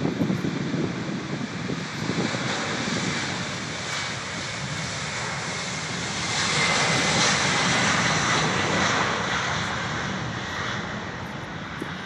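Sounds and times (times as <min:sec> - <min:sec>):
jet engines roaring at high power: 0:00.0 - 0:12.0.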